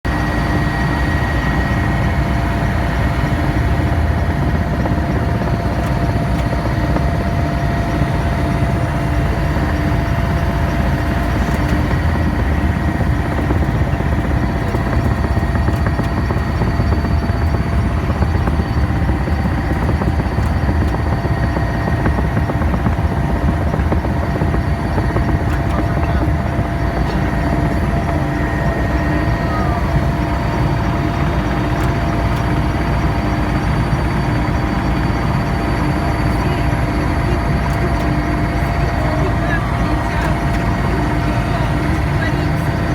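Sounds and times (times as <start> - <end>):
helicopter rotor and engine drone: 0.0 - 42.9
constant whine: 0.1 - 42.9.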